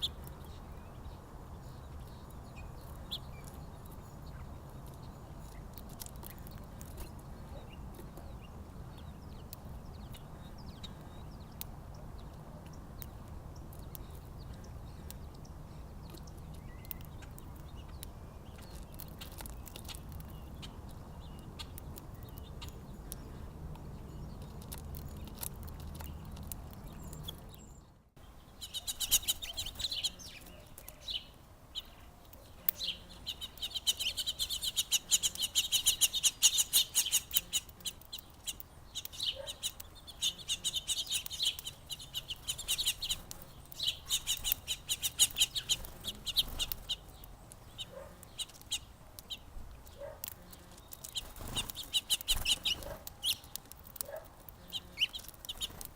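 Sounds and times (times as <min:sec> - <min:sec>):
songbirds chirping chatter: 0:00.0 - 0:55.9
faint scattered clicks: 0:02.0 - 0:08.4, 0:09.0 - 0:27.8, 0:28.6 - 0:55.9.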